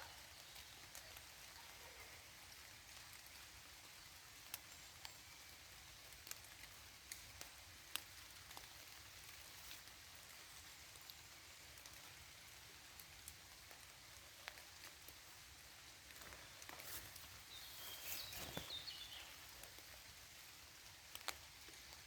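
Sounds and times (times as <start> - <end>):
light rain hissing: 0.0 - 22.0.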